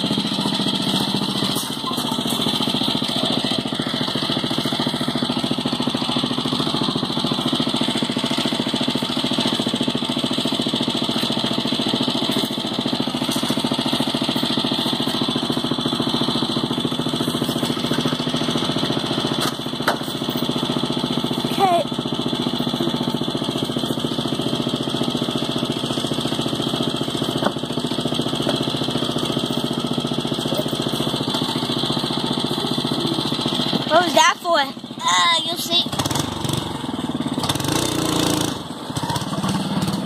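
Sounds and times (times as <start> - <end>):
small engine idling: 0.0 - 40.0.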